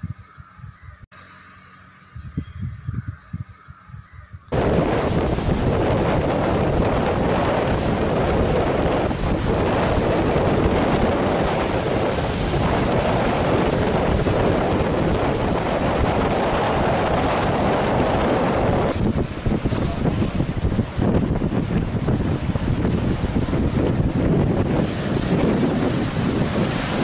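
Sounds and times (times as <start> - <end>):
wind buffeting microphone: 0.0 - 1.1, 2.0 - 27.0
waves surging and breaking: 4.5 - 27.0.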